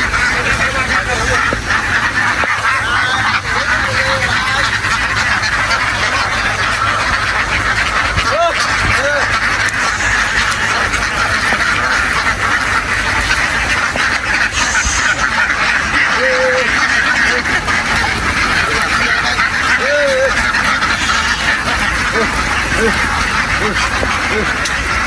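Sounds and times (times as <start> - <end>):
flock of ducks quacking: 0.0 - 25.0
single duck calls: 0.0 - 25.0.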